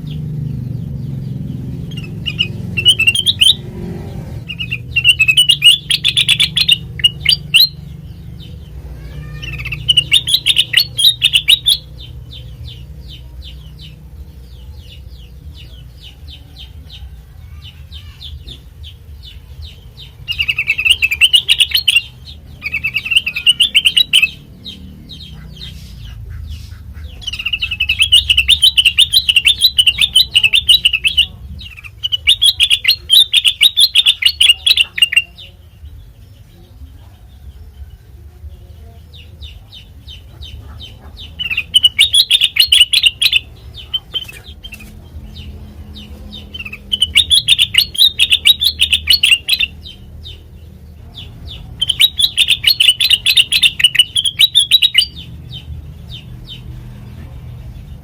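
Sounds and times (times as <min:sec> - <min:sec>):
bird chattering song: 0:00.0 - 0:37.9, 0:38.5 - 0:58.0.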